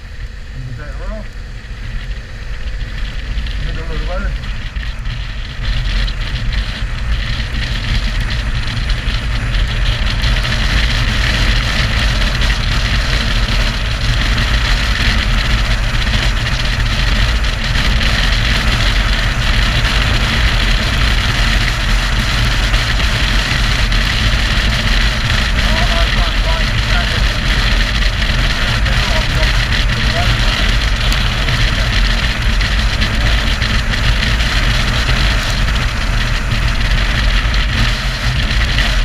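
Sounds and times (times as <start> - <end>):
motorcycle engine: 0.0 - 39.0
wind rushing over microphone: 0.0 - 39.0.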